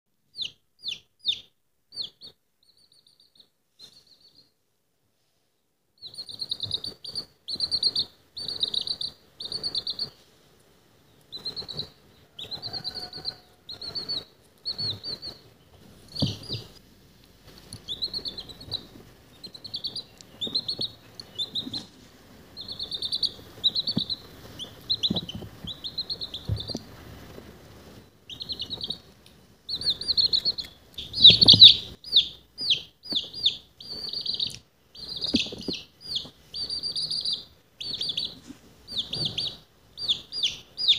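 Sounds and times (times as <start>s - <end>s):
baby chick peeping: 0.3s - 4.5s, 6.0s - 40.9s.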